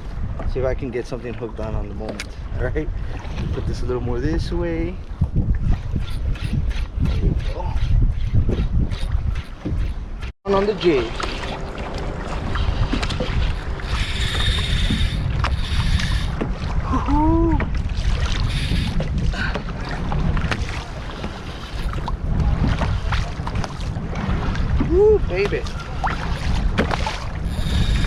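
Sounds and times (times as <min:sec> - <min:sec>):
water noise: 0:00.0 - 0:28.0
wind rumbling on microphone: 0:00.0 - 0:28.0.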